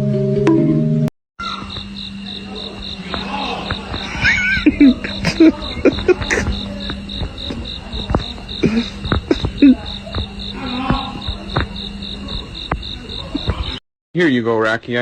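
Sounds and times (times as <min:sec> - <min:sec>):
cricket chirping rapidly: 0:01.4 - 0:15.0.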